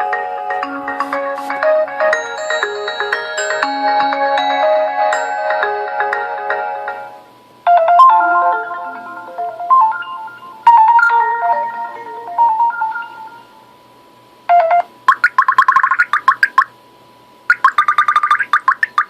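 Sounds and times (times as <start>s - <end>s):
ringtone with bright beeps: 0.0s - 13.6s, 14.5s - 16.7s
melodic electronic ringtone: 0.0s - 13.7s, 14.5s - 16.6s, 17.5s - 19.0s.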